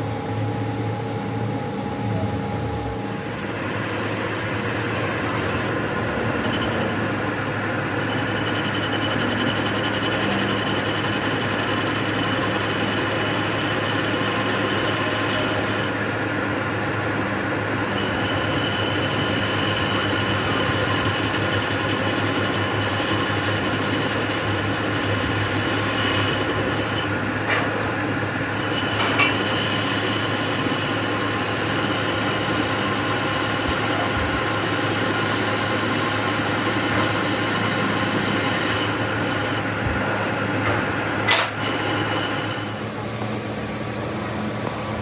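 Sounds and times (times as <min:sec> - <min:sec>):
metal lathe humming: 0:00.0 - 0:43.2
high squealing whine of cutting: 0:00.2 - 0:39.8, 0:40.5 - 0:43.2.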